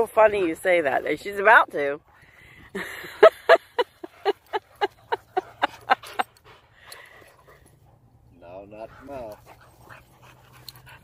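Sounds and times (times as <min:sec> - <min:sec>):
dogs panting fast: 0:00.2 - 0:11.0.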